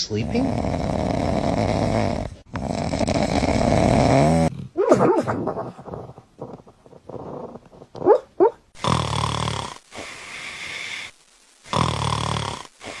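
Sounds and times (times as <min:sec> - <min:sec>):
dog snoring: 0:00.0 - 0:08.2, 0:08.8 - 0:13.0.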